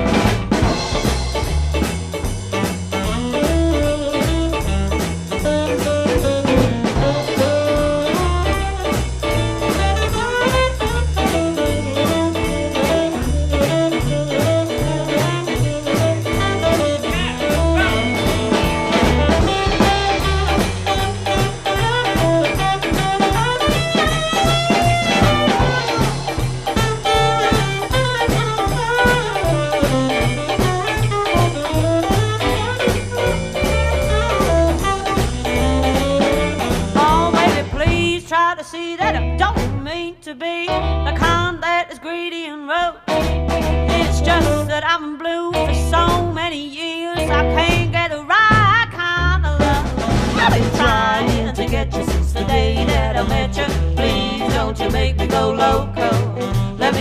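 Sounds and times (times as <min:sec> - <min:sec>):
drum kit beat: 0:00.0 - 0:38.3, 0:41.2 - 0:41.5, 0:43.1 - 0:44.9, 0:47.2 - 0:57.0
swing rock and roll music: 0:00.0 - 0:42.0, 0:42.8 - 0:57.0.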